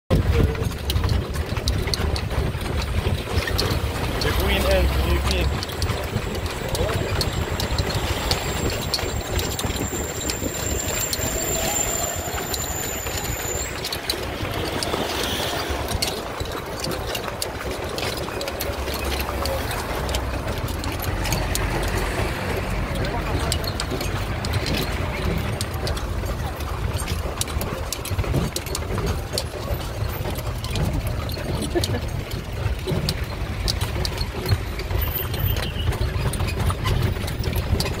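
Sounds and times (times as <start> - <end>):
carriage ride rumbling: 0.1 - 38.0
sharp clicks: 0.1 - 38.0.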